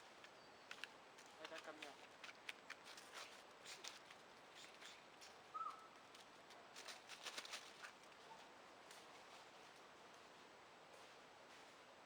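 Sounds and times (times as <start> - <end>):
faint crackles and ticks: 0.0 - 5.4, 6.0 - 11.0.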